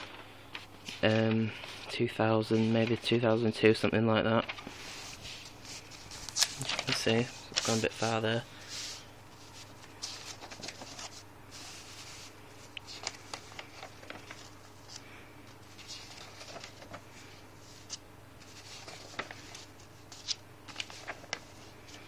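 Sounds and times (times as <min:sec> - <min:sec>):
paper rustling: 0:00.0 - 0:03.3, 0:04.3 - 0:22.0
low steady hum: 0:00.0 - 0:22.0.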